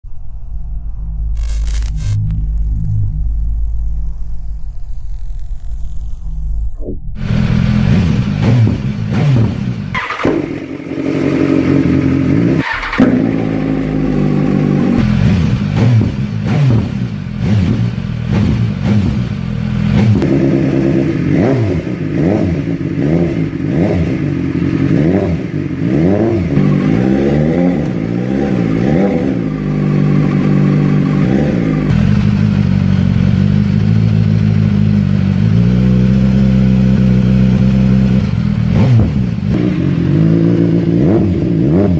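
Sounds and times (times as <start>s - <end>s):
motorcycle engine revving: 7.2s - 41.9s.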